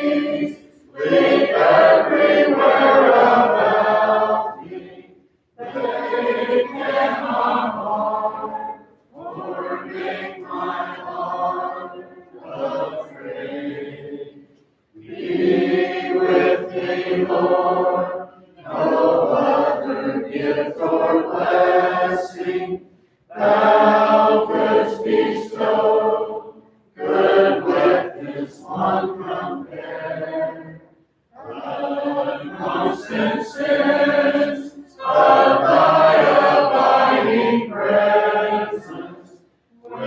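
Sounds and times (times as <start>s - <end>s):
congregation singing a hymn: 0.0s - 40.0s.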